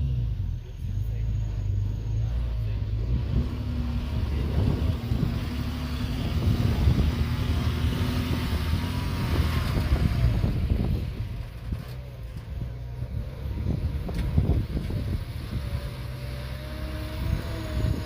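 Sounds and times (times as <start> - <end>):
earthmoving machine diesel rumble: 0.0 - 18.0.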